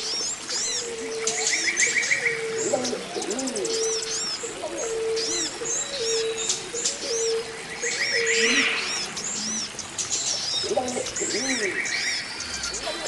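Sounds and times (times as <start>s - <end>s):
birds chirping high: 0.0s - 13.0s.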